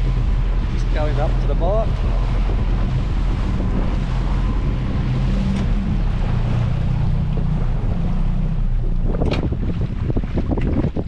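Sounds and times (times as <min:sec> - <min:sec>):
boat engine droning: 0:00.0 - 0:11.0
water rushing past hull: 0:00.0 - 0:11.0
wind on microphone: 0:00.0 - 0:11.0.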